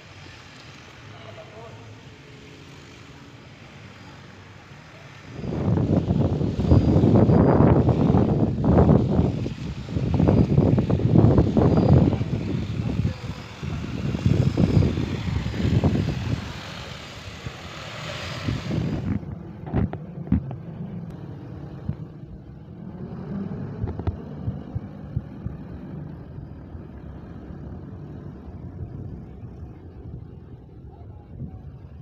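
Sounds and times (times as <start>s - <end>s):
drone rotors whirring: 0.0s - 31.0s
wind buffeting microphone: 5.2s - 32.0s.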